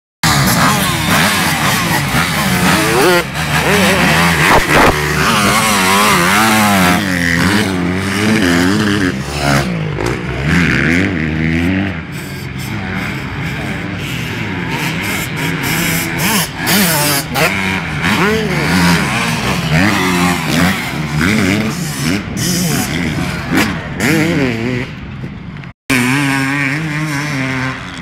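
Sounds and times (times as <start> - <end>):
dirt bike engines revving: 0.2 - 28.0.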